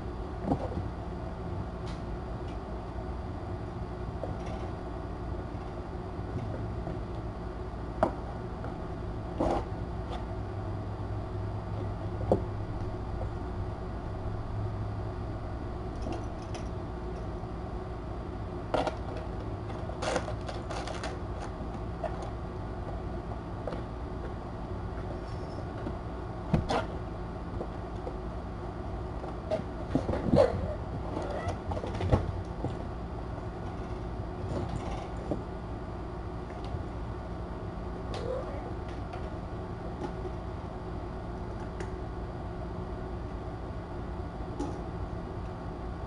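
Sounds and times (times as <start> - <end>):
low room hum: 0.0 - 46.0.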